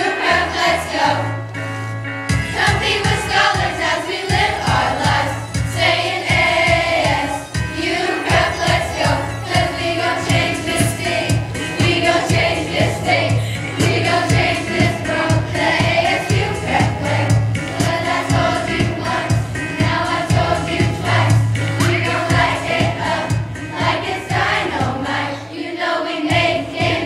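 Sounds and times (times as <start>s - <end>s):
children's choir singing: 0.0s - 1.4s, 2.5s - 27.0s
accompaniment with steady beat: 2.2s - 25.4s, 26.2s - 27.0s.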